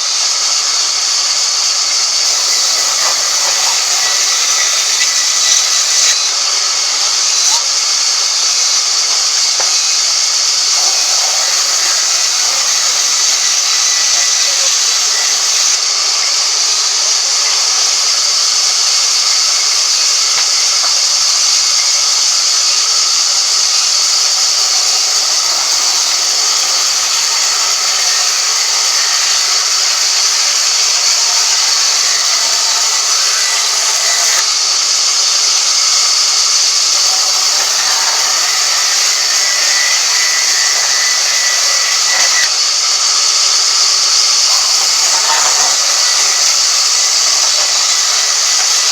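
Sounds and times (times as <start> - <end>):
woodworking power tool hissing: 0.0 - 48.9.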